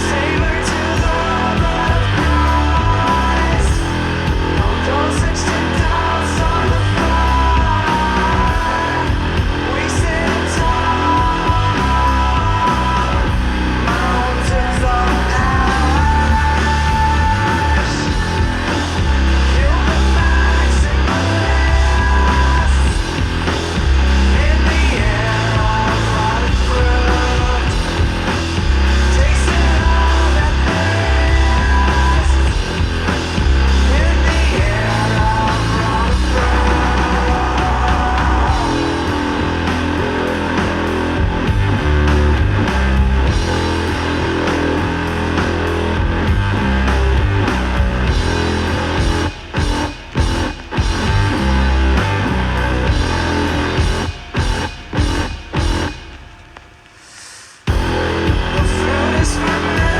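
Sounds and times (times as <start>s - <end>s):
deep bass notes: 0.0s - 56.4s, 57.7s - 59.9s
doom metal music: 0.0s - 57.0s, 57.7s - 59.9s
distorted guitar: 0.0s - 59.9s.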